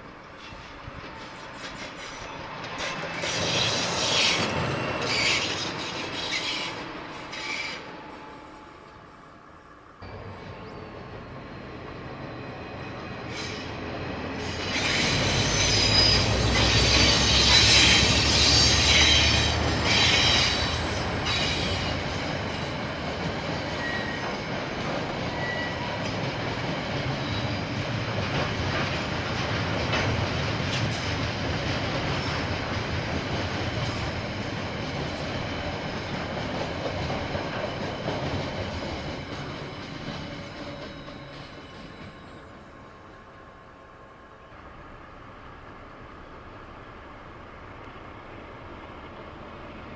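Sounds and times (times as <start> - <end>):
train wheel squeal: 0.0 - 43.4
diesel locomotive engine rumble: 0.0 - 49.9
train wagons rumbling past: 0.0 - 49.9.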